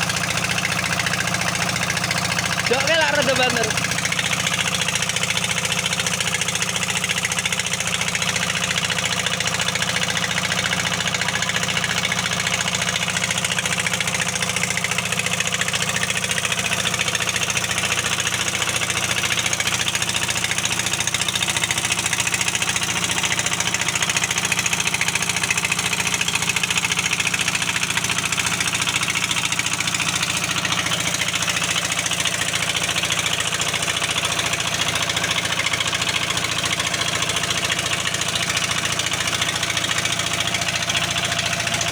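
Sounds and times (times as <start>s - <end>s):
diesel engine running with knock: 0.0s - 41.9s.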